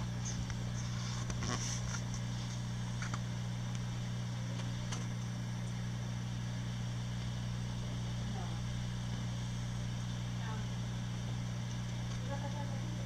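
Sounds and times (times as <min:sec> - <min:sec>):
aquarium pumps humming: 0:00.0 - 0:13.0.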